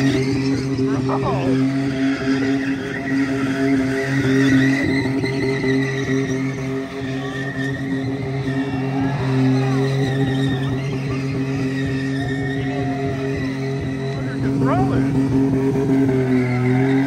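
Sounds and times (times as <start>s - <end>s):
tires skidding: 0.0s - 17.0s
vehicle engine revving high: 0.0s - 17.0s.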